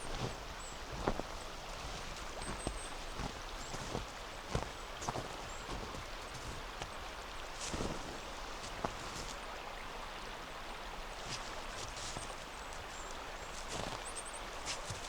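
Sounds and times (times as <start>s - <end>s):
footsteps crunching on snow: 0.0s - 9.4s, 11.2s - 15.0s
river water running: 0.0s - 15.0s.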